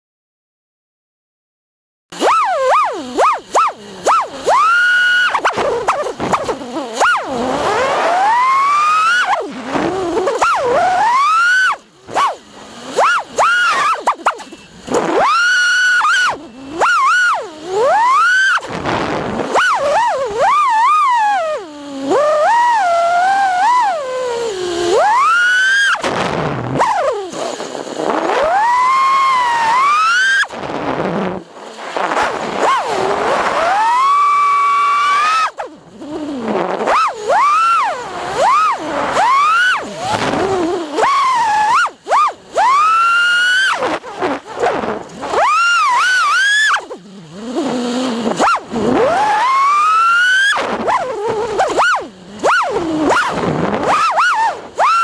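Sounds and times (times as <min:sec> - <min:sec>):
quadcopter motors whining: 0:02.2 - 0:55.0.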